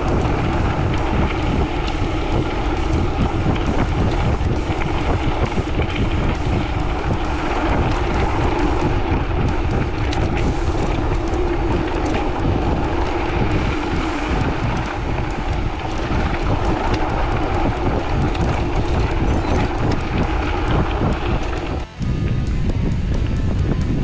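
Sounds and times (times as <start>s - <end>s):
bike knocks and rattles: 0.0s - 24.0s
bike tyre rumble: 0.0s - 24.0s
wind rushing over microphone: 0.0s - 24.0s.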